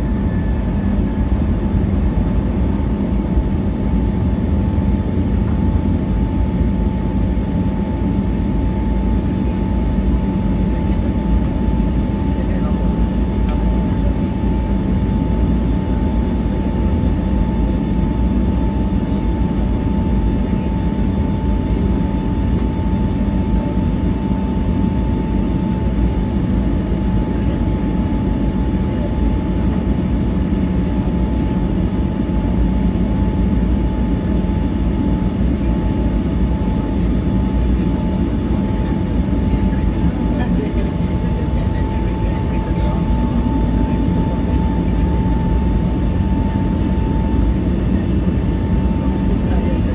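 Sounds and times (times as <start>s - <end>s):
aircraft cabin engine rumble: 0.0s - 49.9s
engine whine: 0.0s - 49.9s.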